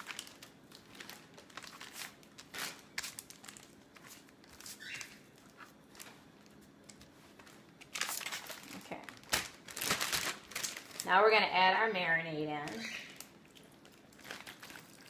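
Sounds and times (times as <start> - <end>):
plastic bag crinkling: 0.0 - 11.7, 12.6 - 15.0.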